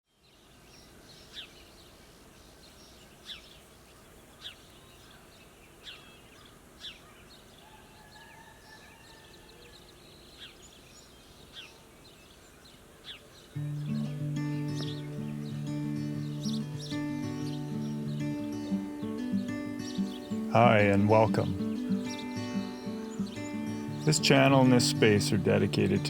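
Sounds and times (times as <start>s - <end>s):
faint background hiss: 0.1s - 7.7s, 9.7s - 26.0s
soft bird chirps: 0.1s - 25.1s.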